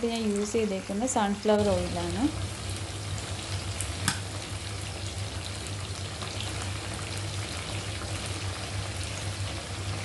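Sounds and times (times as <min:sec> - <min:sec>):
low steady hum: 0:00.0 - 0:10.0
oil sizzling and crackling: 0:00.0 - 0:10.0.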